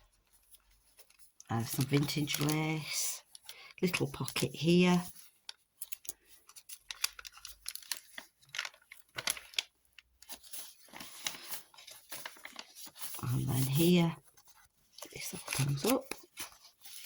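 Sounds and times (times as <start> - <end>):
paper pages rustling: 0.0 - 17.0.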